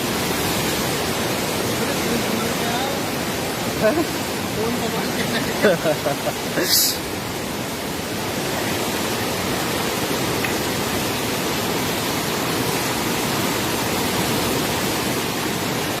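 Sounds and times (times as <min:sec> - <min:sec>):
river rushing roar: 0:00.0 - 0:16.0.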